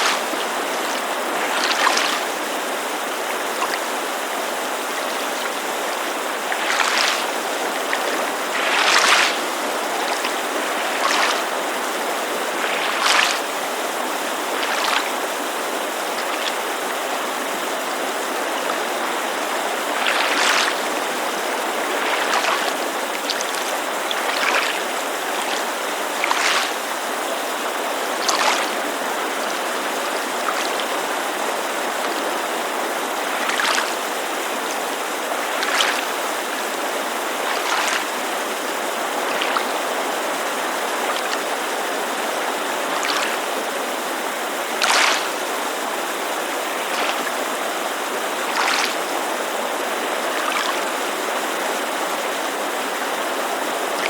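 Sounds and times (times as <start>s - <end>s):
creek rushing: 0.0s - 54.0s
small waves lapping on shore: 0.0s - 54.0s.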